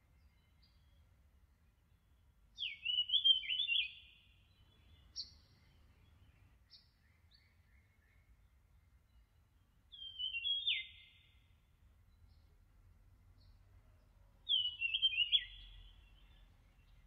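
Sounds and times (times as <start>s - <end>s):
bird chirping: 0.0s - 12.7s, 13.3s - 17.0s.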